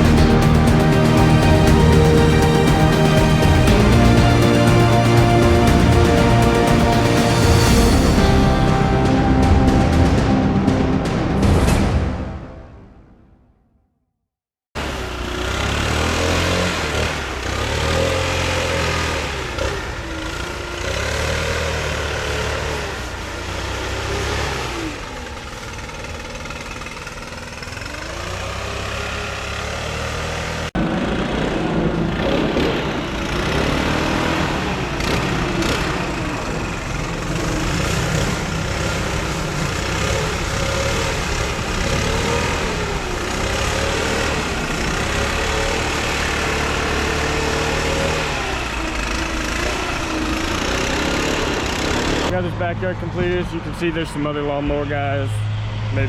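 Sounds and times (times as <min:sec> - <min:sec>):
small engine running: 0:00.0 - 0:10.3, 0:14.8 - 0:52.4.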